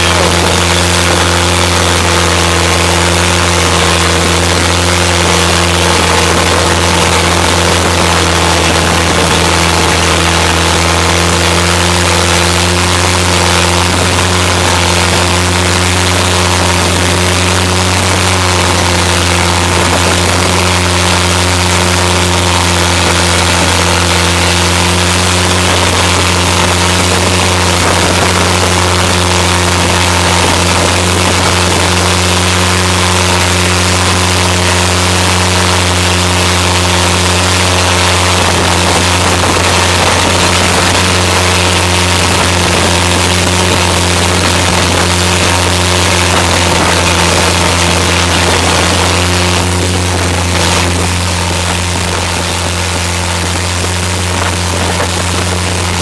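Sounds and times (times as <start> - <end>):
boat engine droning: 0.0 - 56.0
water spray rushing along hull: 0.0 - 56.0.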